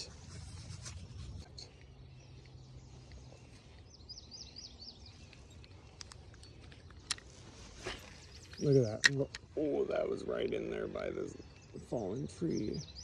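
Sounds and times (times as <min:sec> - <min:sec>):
outdoor background noise: 0:00.0 - 0:13.0
songbird chirping: 0:00.0 - 0:13.0.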